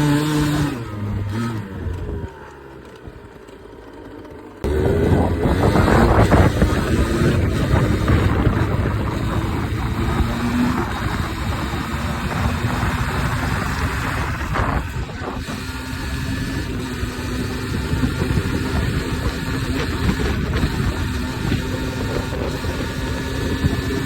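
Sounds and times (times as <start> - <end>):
two-stroke motorcycle engine running: 0.0 - 24.0.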